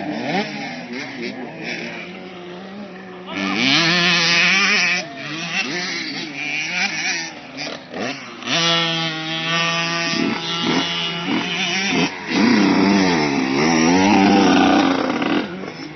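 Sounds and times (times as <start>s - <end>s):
motocross bike engines revving: 0.0s - 15.9s.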